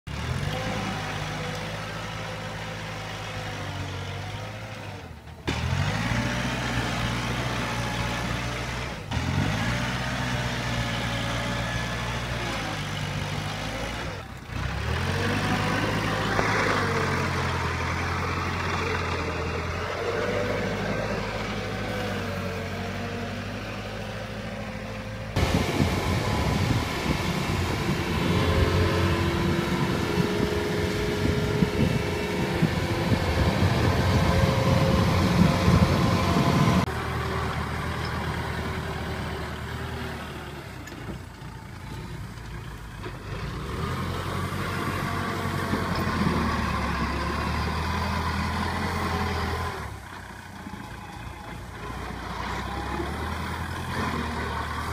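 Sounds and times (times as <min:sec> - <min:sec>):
tractor diesel engine under load: 0:00.0 - 0:54.9
combine harvester engine rumble: 0:00.1 - 0:54.9.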